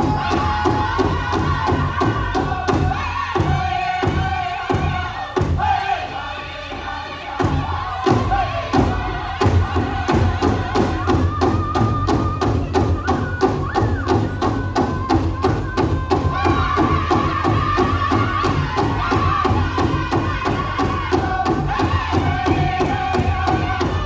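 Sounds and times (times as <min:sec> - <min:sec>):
voices singing together: 0:00.0 - 0:24.0.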